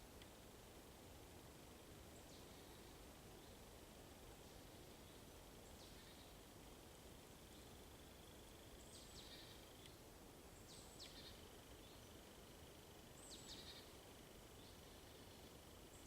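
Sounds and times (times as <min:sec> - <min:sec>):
background hiss: 0:00.0 - 0:16.0
songbird singing: 0:02.0 - 0:16.0.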